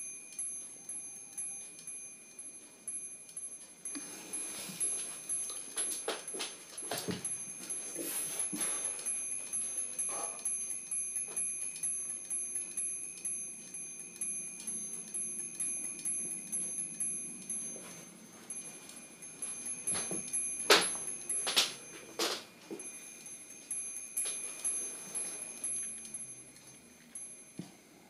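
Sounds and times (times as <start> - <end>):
small bells tinkling: 0.0 - 28.0.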